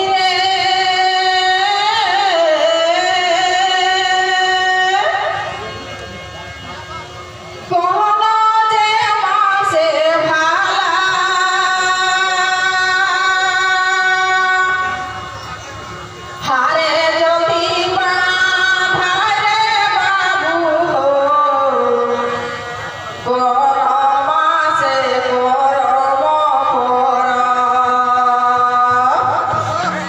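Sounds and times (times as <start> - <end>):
woman singing through a microphone: 0.0 - 5.8, 7.6 - 15.3, 16.4 - 30.0.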